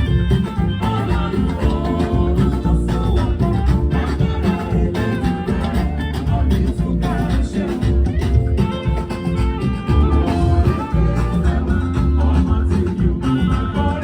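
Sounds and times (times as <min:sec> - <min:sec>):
upbeat song with bass guitar and singing: 0:00.0 - 0:14.0.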